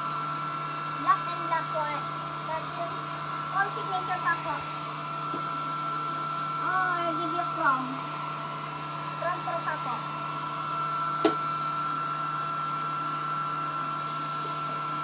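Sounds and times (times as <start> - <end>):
hair dryer whining: 0.0 - 15.0.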